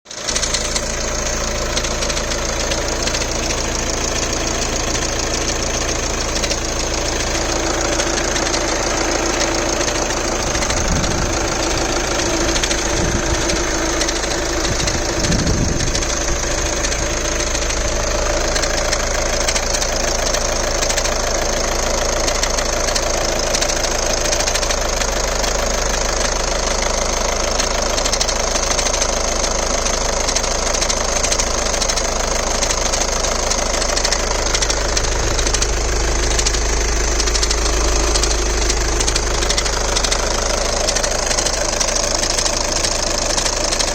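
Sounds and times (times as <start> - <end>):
car engine idling: 0.0 - 43.9
rapid clicking from engine: 0.1 - 43.9.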